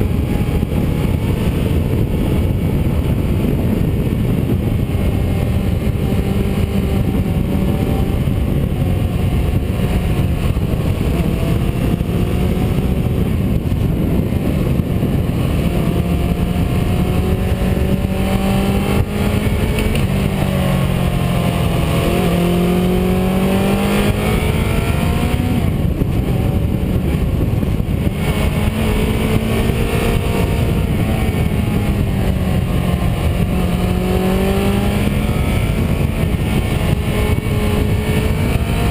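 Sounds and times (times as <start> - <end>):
car engine accelerating: 0.0 - 38.9
road and wind noise: 0.0 - 38.9.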